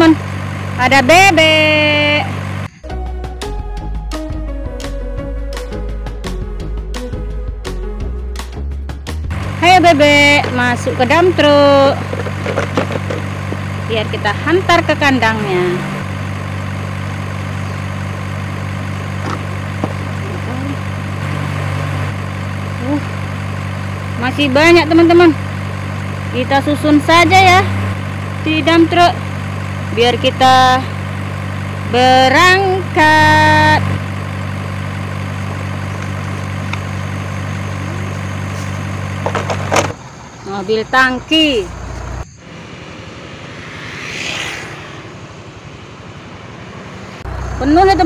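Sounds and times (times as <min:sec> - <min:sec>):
engine idling drone: 0:00.0 - 0:48.0.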